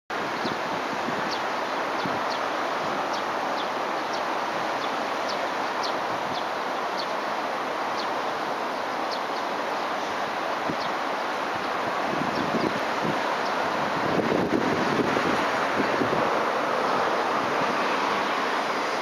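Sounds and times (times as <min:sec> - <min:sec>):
river water rushing: 0:00.1 - 0:19.0.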